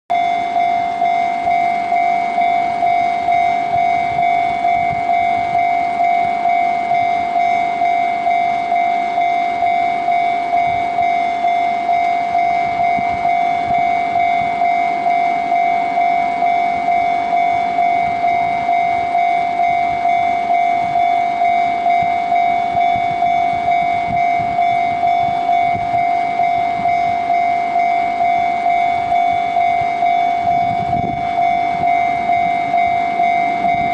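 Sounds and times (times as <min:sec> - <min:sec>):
level-crossing warning bell ringing: 0:00.1 - 0:33.9.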